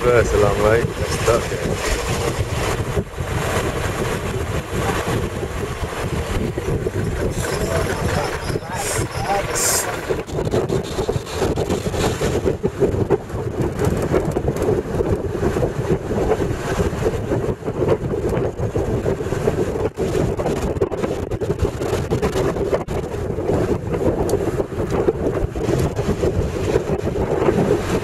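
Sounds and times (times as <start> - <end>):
road vehicle rumbling: 0.0 - 28.0
wind noise on microphone: 0.0 - 28.0.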